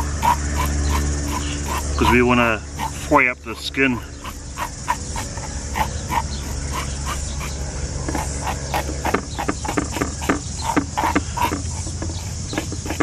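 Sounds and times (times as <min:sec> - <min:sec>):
fish scaler rasping on scales: 0:00.0 - 0:13.0.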